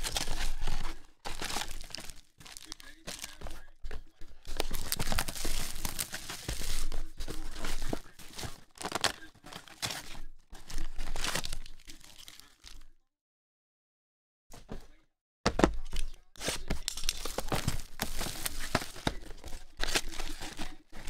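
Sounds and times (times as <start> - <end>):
plastic wrapper tearing and rustling: 0.0 - 12.9, 15.9 - 21.0.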